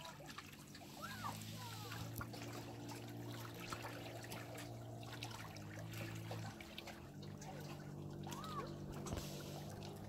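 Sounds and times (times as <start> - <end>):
water lapping: 0.0 - 10.0
steady low hum: 0.4 - 10.0.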